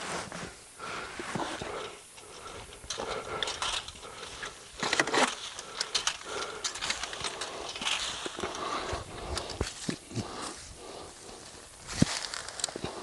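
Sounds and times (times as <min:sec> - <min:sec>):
dry pine straw rustling: 0:00.0 - 0:13.0.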